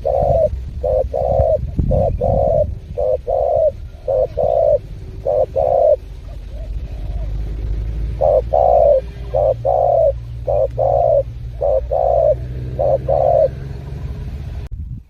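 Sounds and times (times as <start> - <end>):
dove cooing: 0.0 - 14.7.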